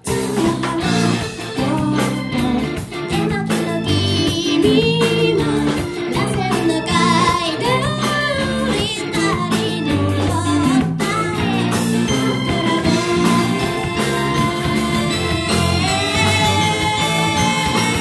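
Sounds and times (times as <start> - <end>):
rock band playing: 0.0 - 18.0
woman singing: 0.0 - 18.0.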